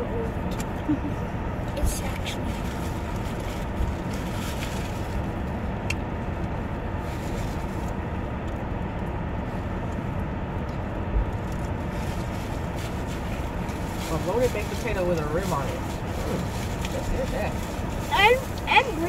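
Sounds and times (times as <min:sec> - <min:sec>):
car interior noise: 0:00.0 - 0:19.0.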